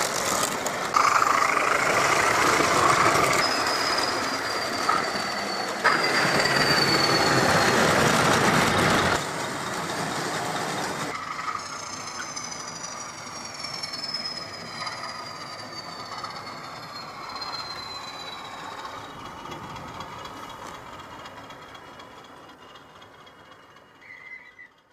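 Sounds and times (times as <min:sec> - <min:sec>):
high wheel squeals: 0:00.0 - 0:24.9
model train rolling rumble: 0:00.0 - 0:24.9.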